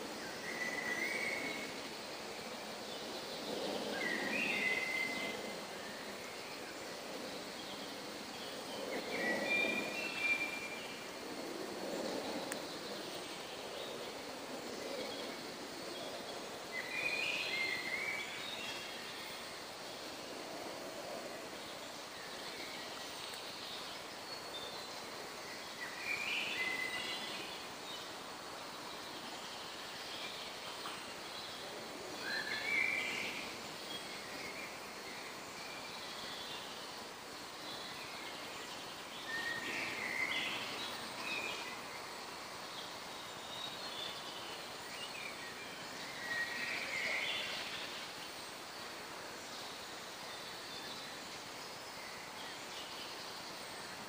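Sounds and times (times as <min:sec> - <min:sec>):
forest ambience hiss: 0:00.0 - 0:54.0
songbird singing: 0:00.0 - 0:54.0.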